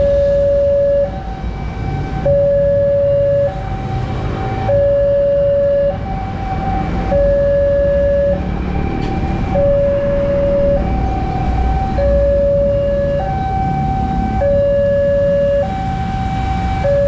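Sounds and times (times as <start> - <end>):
level crossing warning bell: 0.0 - 3.8, 4.6 - 6.1, 7.0 - 17.0
low rumble: 0.0 - 15.5.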